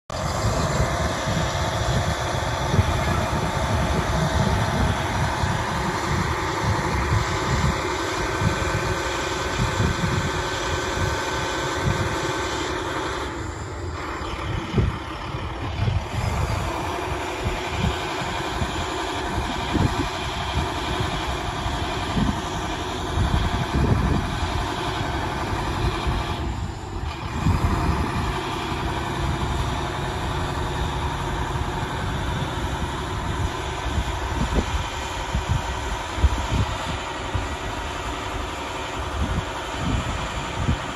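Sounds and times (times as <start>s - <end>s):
truck engine running: 0.1s - 40.9s.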